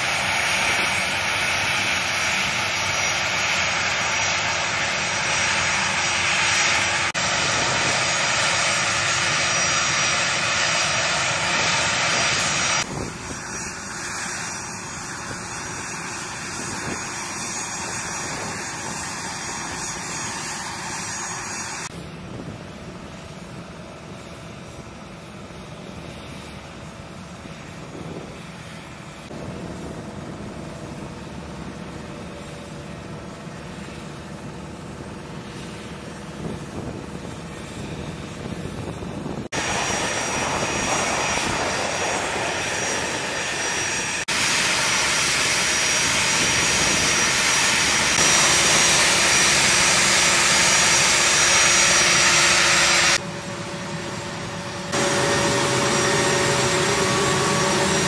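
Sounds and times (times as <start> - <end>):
jet engines idling: 0.0 - 58.0.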